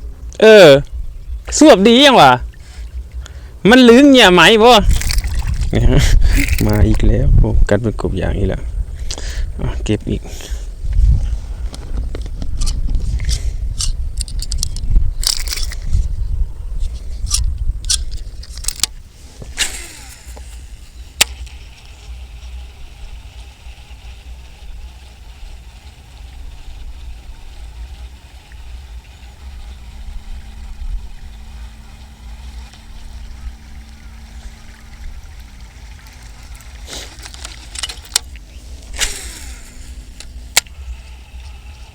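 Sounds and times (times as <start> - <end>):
faint steady hum: 0.0 - 41.9
wind buffeting microphone: 0.0 - 41.9.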